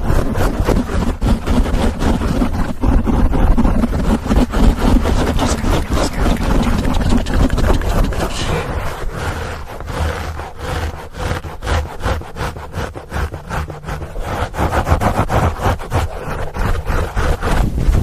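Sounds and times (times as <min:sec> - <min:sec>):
scratching on foam microphone cover: 0:00.0 - 0:18.0.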